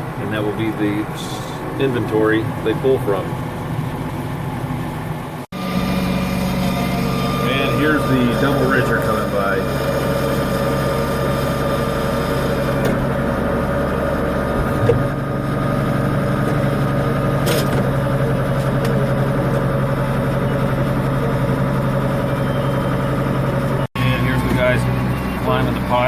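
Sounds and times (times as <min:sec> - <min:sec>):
tractor engine humming: 0:00.0 - 0:26.0.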